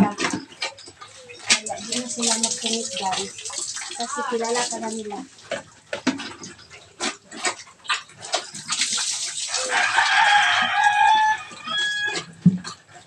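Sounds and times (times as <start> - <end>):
water splashing on concrete: 0.0 - 6.3, 7.0 - 12.8.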